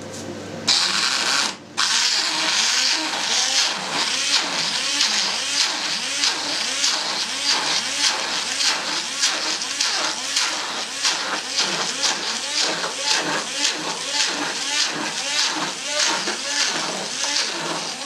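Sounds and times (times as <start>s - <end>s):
immersion blender running in pot: 0.6s - 18.0s.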